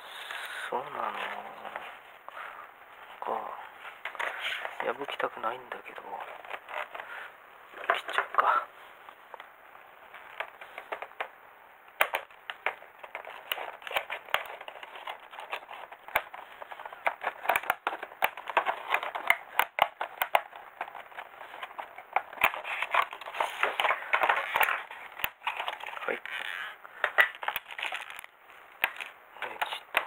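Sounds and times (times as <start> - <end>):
plastic crackling: 0.1 - 30.0.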